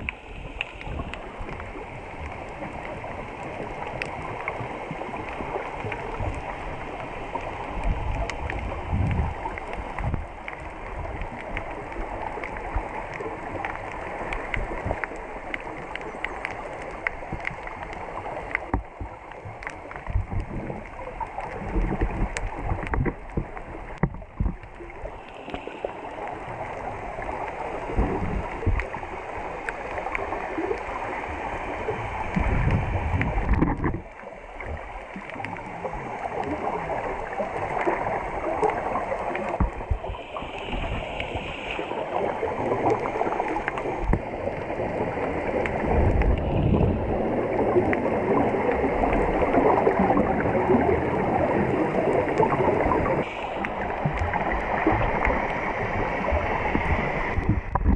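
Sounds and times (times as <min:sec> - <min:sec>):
small crackling clicks: 0:00.0 - 0:57.9
underwater water rush and gurgle: 0:00.0 - 0:57.9.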